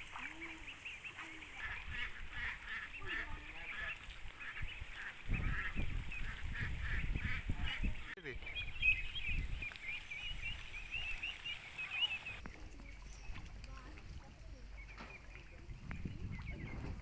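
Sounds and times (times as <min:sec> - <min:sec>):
young ducks calling: 0:00.0 - 0:17.0.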